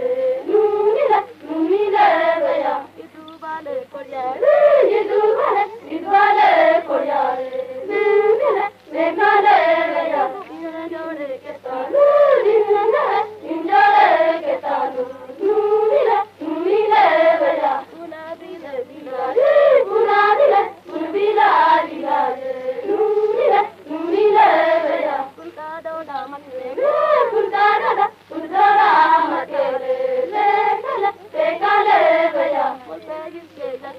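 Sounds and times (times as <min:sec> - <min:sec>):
high voices singing folk song: 0:00.0 - 0:33.9
steady low hum: 0:00.0 - 0:33.9.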